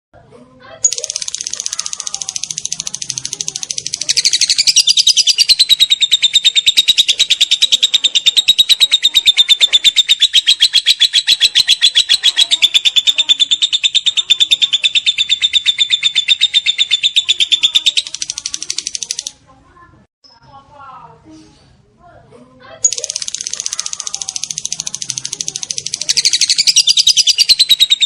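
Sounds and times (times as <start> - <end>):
lovebird chattering trill: 0.8 - 19.3, 22.8 - 28.0.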